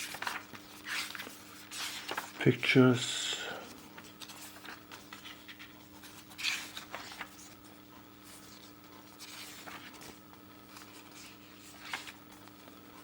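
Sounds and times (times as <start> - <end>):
faint steady hum: 0.0 - 13.0
paper pages rustling: 0.0 - 13.0.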